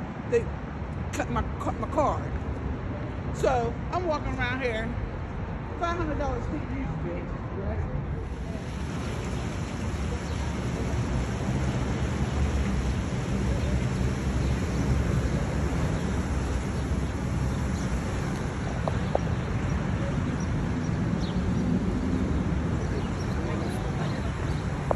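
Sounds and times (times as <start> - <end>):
street traffic rumble: 0.0 - 24.9.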